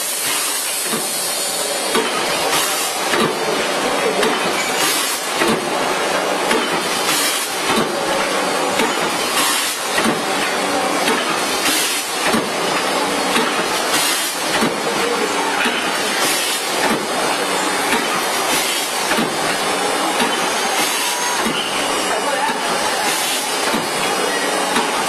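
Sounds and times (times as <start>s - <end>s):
packing machine clatter: 0.0s - 25.0s.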